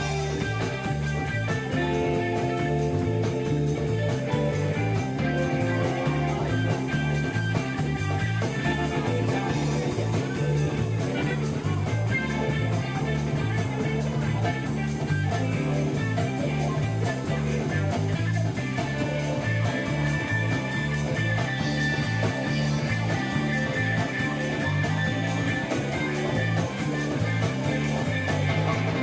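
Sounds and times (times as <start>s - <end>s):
guitar playing: 0.0s - 29.0s
instrumental rock jam: 0.0s - 29.0s.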